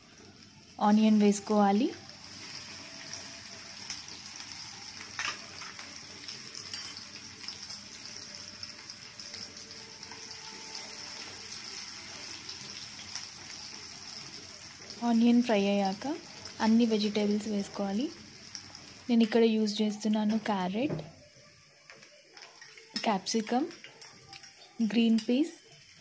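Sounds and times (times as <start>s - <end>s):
onions sizzling in hot oil: 0.0s - 26.0s.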